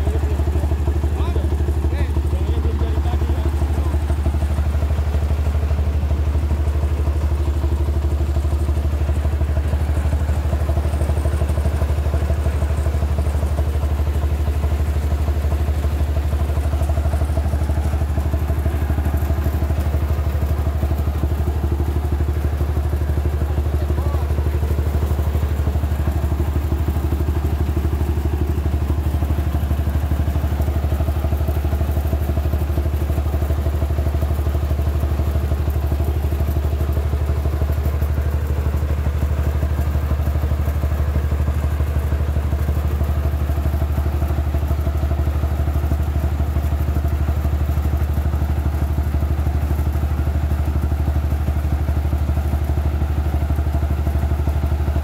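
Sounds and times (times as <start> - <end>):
rice milling machine engine hum: 0.0 - 55.0.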